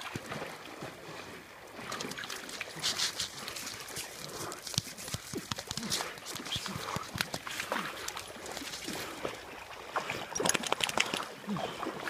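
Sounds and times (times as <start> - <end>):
lake water splashing: 0.0 - 12.0.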